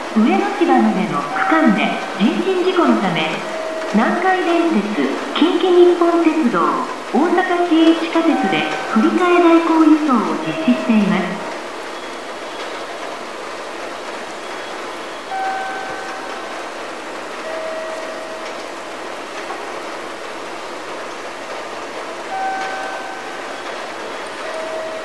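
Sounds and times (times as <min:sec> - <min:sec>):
railway concourse noise: 0:00.0 - 0:25.0.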